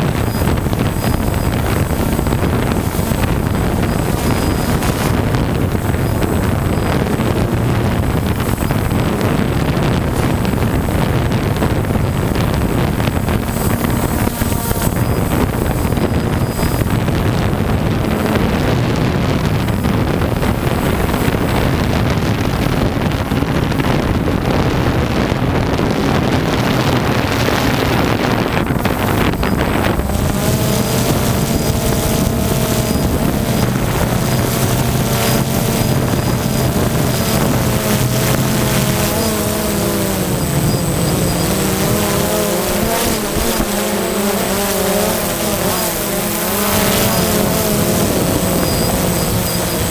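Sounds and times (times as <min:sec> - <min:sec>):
drone motors and propellers: 0:00.0 - 0:49.9
high motor whine: 0:00.0 - 0:49.9
wind on microphone: 0:00.0 - 0:49.9.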